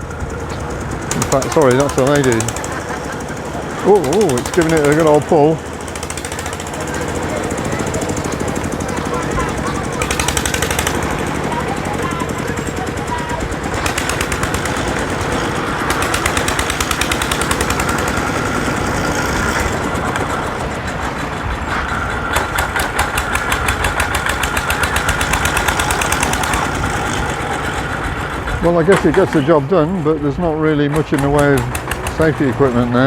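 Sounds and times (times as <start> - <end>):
rapid steady knocking: 0.0 - 33.0
small engine running under load: 0.0 - 33.0.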